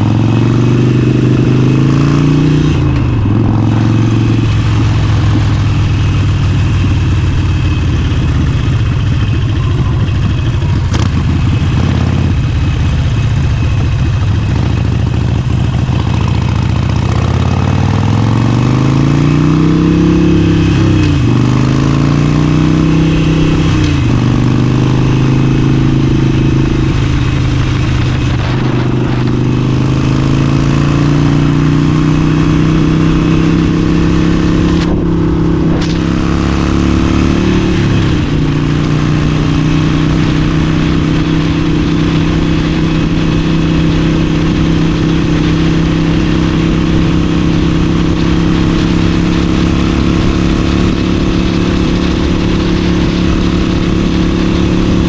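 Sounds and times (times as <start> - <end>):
motorcycle engine running: 0.0 - 55.0
wind and road rush: 0.0 - 55.0.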